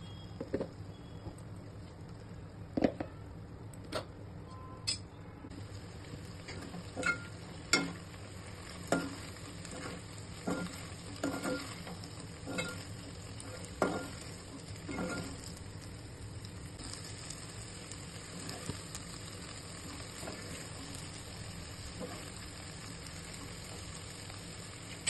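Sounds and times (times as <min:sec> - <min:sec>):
frying sizzle: 0:00.0 - 0:04.2, 0:05.5 - 0:25.0.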